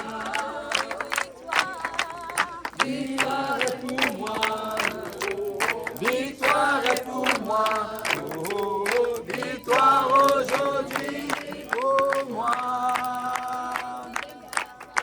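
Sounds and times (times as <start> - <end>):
group singing gospel chorus: 0.0 - 15.0.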